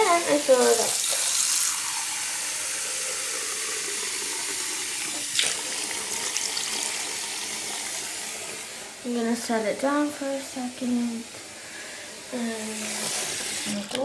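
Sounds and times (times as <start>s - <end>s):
tap water running into bowl: 0.0s - 14.0s.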